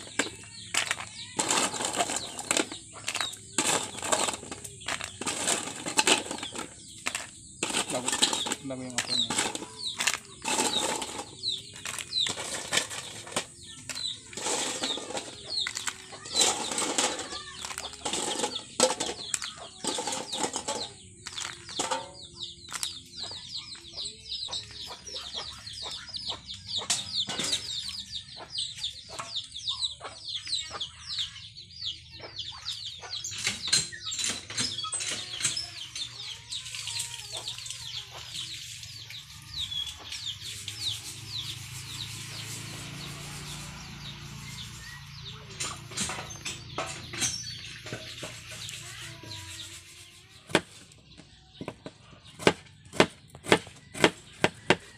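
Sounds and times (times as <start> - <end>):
chicks peeping and clucking: 0.0 - 54.9.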